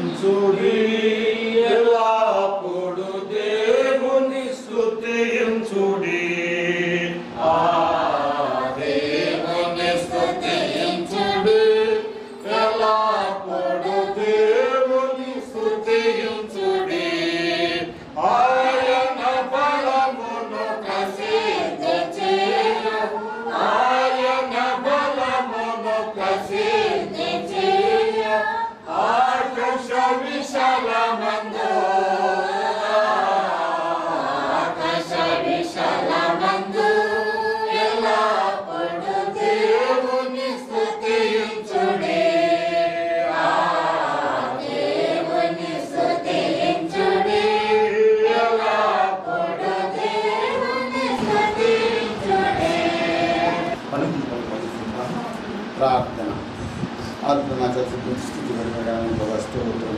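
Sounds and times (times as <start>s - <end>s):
group singing a hymn: 0.0s - 55.8s.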